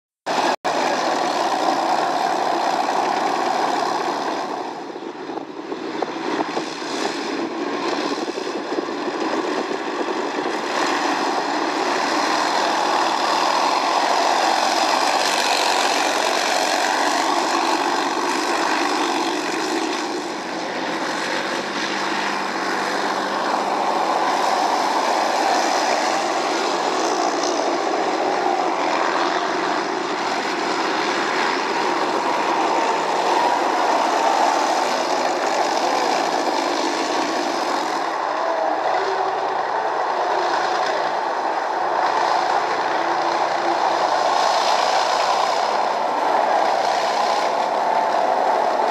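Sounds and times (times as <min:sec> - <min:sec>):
tracked vehicle diesel engine: 0:00.2 - 0:48.9.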